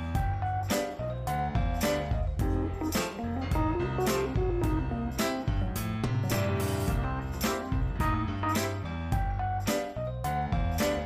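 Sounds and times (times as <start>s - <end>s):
upbeat guitar music: 0.0s - 11.0s.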